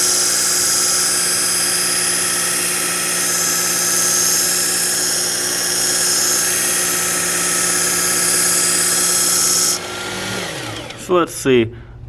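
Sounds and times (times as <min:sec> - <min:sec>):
sharpener motor whine: 0:00.0 - 0:11.1.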